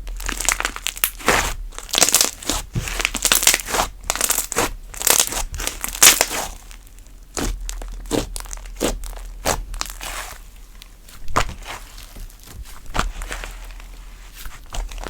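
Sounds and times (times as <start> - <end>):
slime popping and crackling: 0.0 - 13.9.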